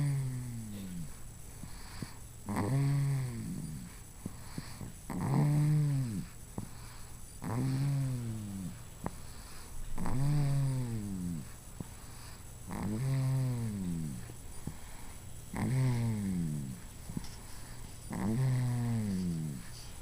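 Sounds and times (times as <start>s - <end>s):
rhythmic snoring: 0.0s - 20.0s.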